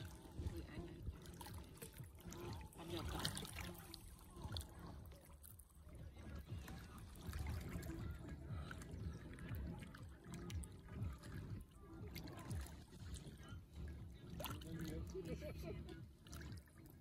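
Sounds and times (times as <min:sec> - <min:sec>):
small waves lapping against rocks: 0:00.0 - 0:17.0.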